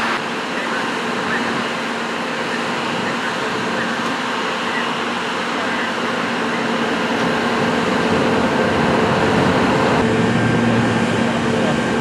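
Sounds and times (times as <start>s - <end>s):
constant hum: 0.0s - 12.0s
truck engine droning: 0.0s - 12.0s.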